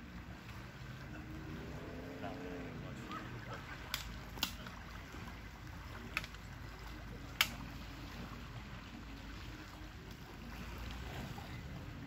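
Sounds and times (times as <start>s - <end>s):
lake water lapping: 0.0s - 12.0s.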